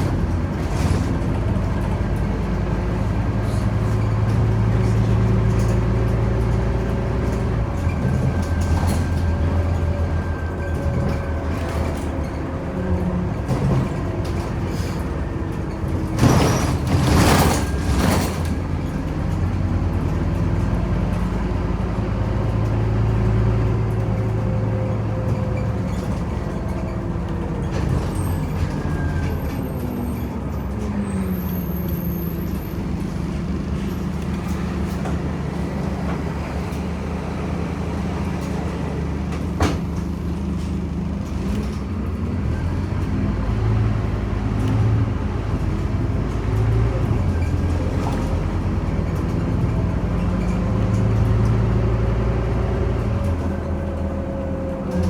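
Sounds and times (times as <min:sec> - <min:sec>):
bus engine hum: 0:00.0 - 0:55.0.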